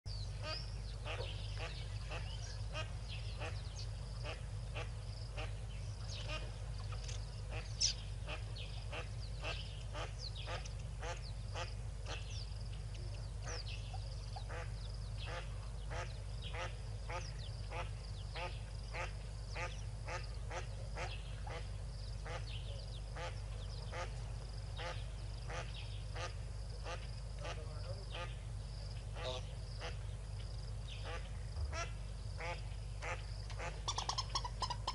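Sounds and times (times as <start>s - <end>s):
ducklings peeping: 0.1s - 34.9s
steady low hum: 0.1s - 34.9s.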